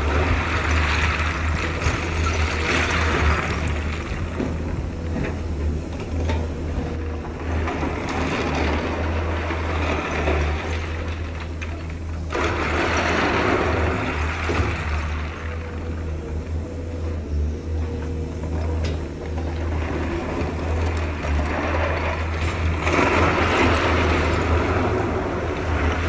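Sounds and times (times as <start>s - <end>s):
rough mechanical clatter: 0.0s - 16.6s, 17.3s - 26.0s
heavy diesel engine running: 0.0s - 26.0s.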